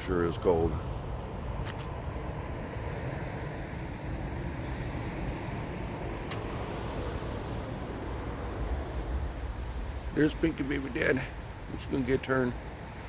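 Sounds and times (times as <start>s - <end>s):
cars driving over bridge: 0.0s - 13.0s.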